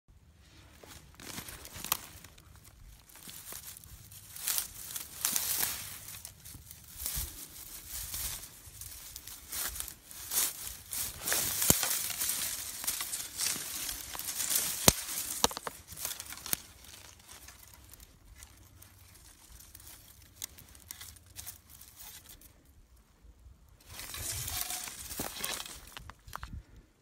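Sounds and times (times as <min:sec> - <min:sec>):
dry grass crackling and tearing: 0:00.4 - 0:22.9, 0:23.8 - 0:26.6
stems snapping: 0:00.8 - 0:22.5, 0:23.8 - 0:26.5.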